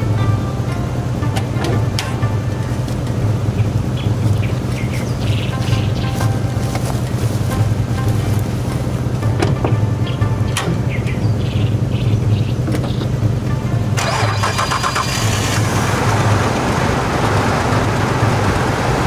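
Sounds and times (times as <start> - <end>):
car engine starting and running: 0.0 - 19.0.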